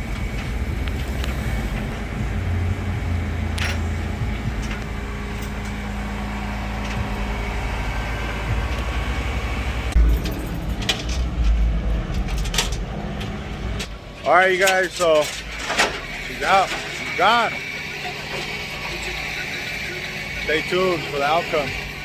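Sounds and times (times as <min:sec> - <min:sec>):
engine surges and knocks: 0:00.0 - 0:22.0
vehicle engine rumbling: 0:00.0 - 0:22.0.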